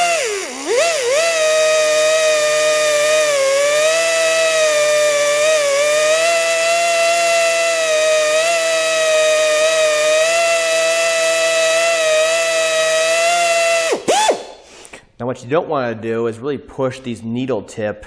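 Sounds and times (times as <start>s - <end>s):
drill whining: 0.0s - 14.9s.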